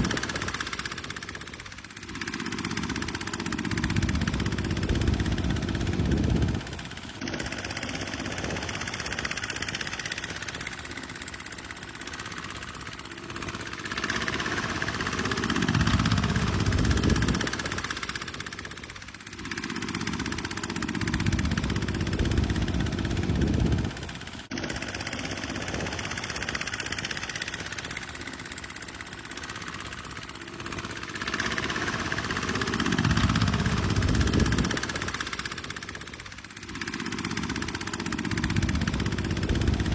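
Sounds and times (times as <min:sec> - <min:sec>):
tractor engine rumbling: 0:00.0 - 0:39.9.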